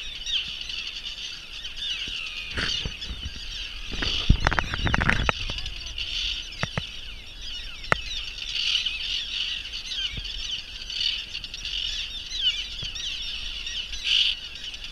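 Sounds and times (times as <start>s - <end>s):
terns calling harshly: 0.0s - 14.9s.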